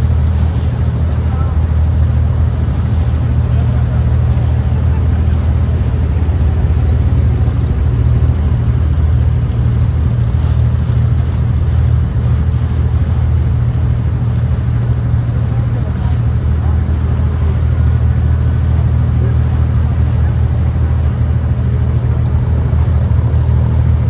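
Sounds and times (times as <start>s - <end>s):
boat diesel engine drone: 0.0s - 24.0s.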